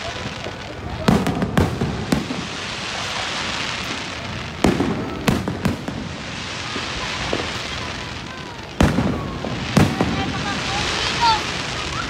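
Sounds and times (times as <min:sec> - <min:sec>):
fireworks bangs: 0:00.0 - 0:12.0
noisy hiss: 0:00.0 - 0:12.0.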